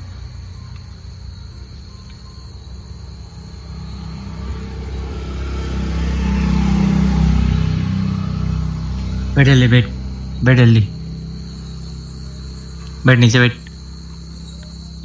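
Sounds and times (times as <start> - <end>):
high insect trill: 0.0 - 15.0
passing vehicle engine hum: 0.0 - 15.0.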